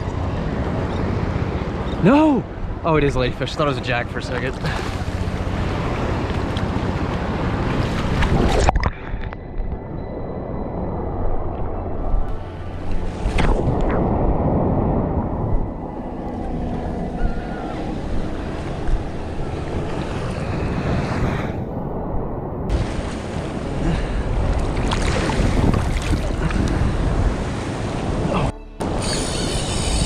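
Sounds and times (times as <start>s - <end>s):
sea waves washing: 0.0s - 9.3s, 12.4s - 30.0s
wind gusting on microphone: 0.0s - 30.0s.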